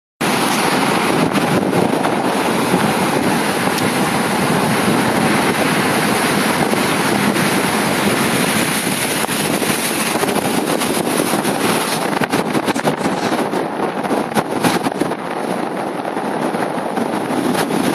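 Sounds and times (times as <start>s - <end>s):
waves breaking on rocks: 0.2s - 17.9s
wind buffeting microphone: 0.2s - 17.9s.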